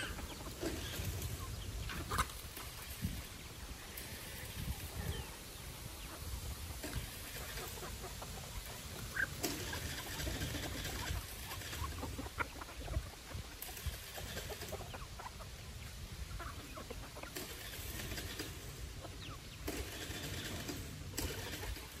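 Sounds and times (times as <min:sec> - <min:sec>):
hens and roosters clucking: 0:00.0 - 0:22.0.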